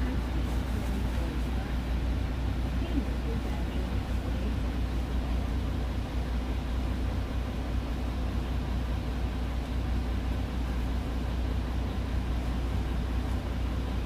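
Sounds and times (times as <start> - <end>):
bus engine drone: 0.0 - 14.0
road and cabin noise: 0.0 - 14.0.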